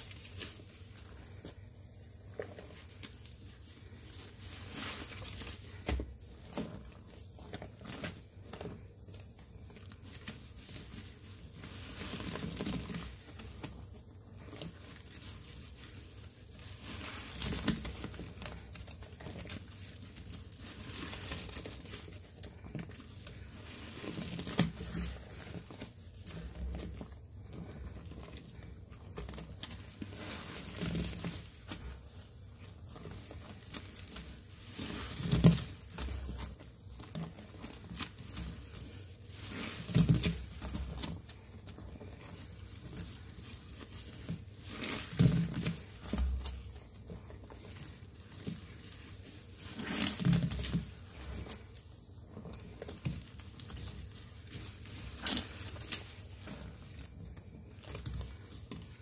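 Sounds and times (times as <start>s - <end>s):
wet sponge squelching: 0.0s - 59.0s.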